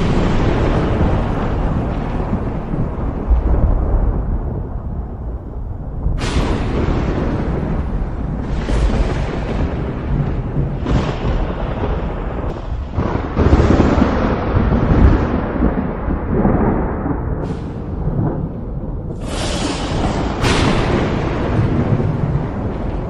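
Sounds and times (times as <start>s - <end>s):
rain: 0.0s - 23.0s
rolling thunder: 0.0s - 23.0s.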